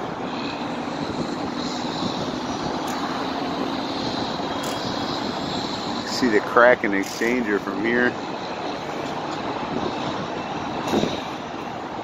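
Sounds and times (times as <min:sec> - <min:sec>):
crane engine droning: 0:00.0 - 0:12.0.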